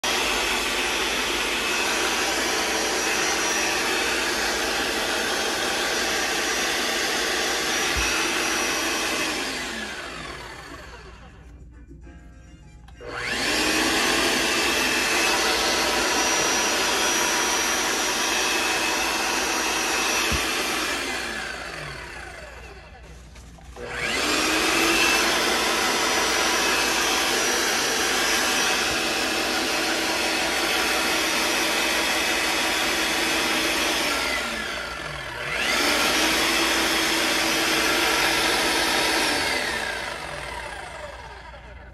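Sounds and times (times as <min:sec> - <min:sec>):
demolition hammer motor whining: 0:00.0 - 0:11.3, 0:13.0 - 0:41.9.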